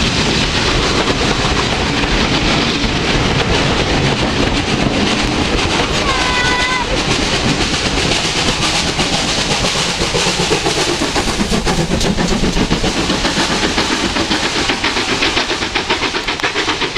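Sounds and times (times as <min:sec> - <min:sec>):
steam engine hissing: 0:00.0 - 0:16.9
train wheels clattering over rail joints: 0:00.0 - 0:16.9.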